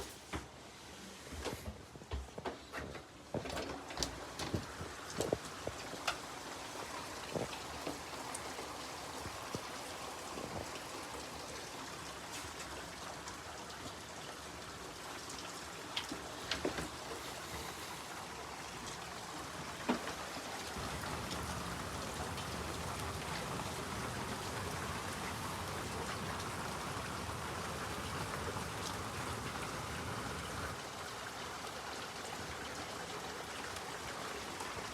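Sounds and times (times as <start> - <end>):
steady rain falling: 3.3 - 34.9.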